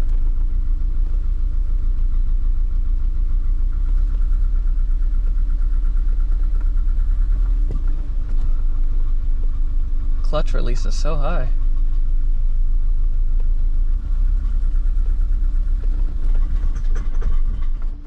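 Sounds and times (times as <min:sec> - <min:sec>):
misfiring engine at low revs: 0:00.0 - 0:18.0.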